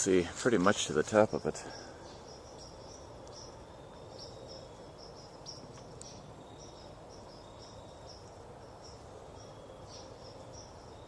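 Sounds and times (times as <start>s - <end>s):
crickets chirping: 0.0s - 11.0s
faint outdoor hiss: 0.0s - 11.0s.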